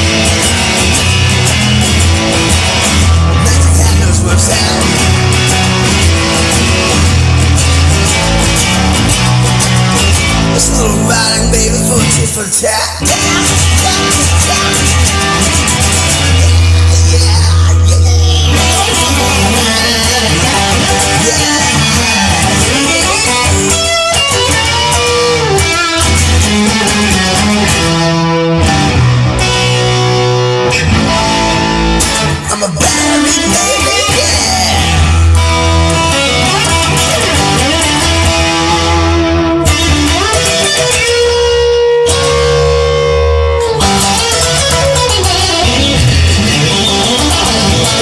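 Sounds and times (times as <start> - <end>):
bass: 0.0 - 48.0
drums: 0.0 - 48.0
electric guitar playing: 0.0 - 48.0.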